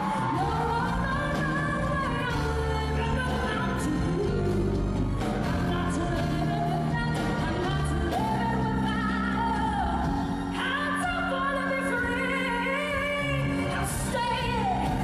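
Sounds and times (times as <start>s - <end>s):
band accompaniment: 0.0s - 15.0s
woman singing soul ballad: 0.0s - 15.0s.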